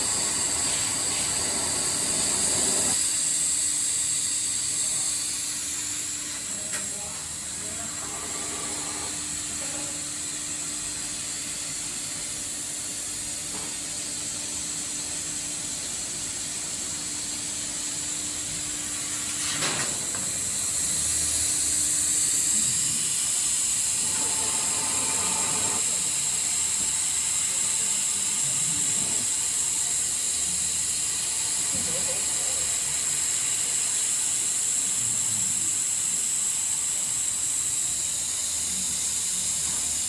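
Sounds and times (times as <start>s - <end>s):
laser cutter hissing: 0.0s - 40.0s.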